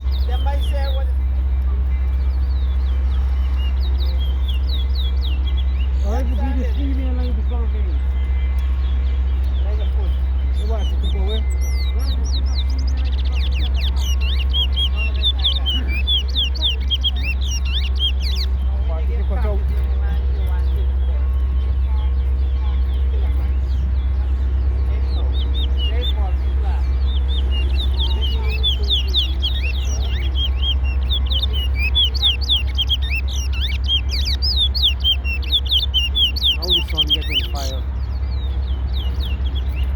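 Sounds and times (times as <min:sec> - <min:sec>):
bird chirping and warbling: 0:00.0 - 0:39.9
steady low rumble: 0:00.0 - 0:39.9.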